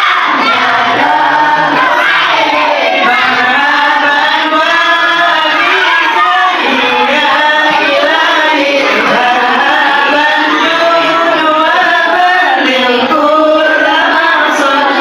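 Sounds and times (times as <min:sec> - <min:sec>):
voices singing devotional song: 0:00.0 - 0:15.0.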